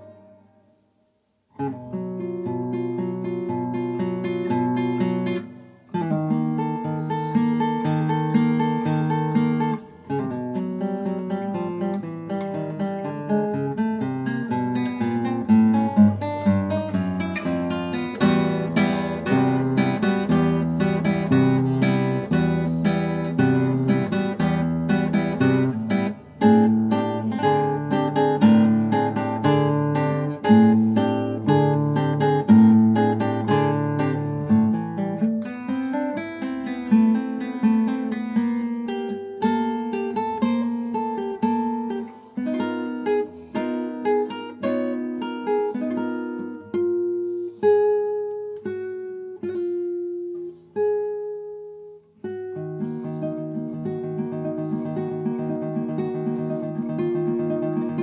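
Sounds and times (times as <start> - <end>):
classical guitar playing: 0.0 - 58.0.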